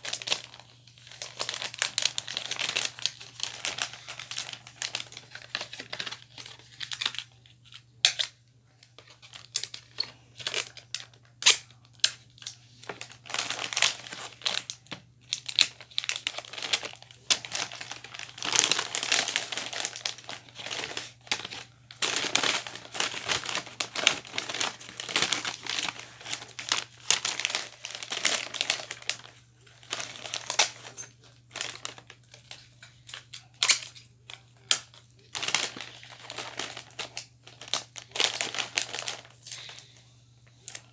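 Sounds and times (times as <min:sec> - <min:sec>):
wrapping paper rustling: 0:00.0 - 0:40.9.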